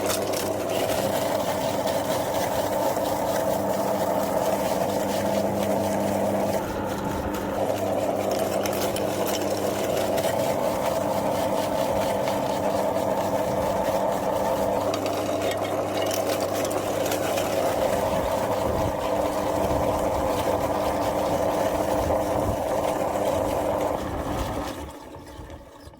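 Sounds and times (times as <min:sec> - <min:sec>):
gritty crackle: 0:00.0 - 0:24.7
meat grinder motor humming: 0:00.0 - 0:25.9.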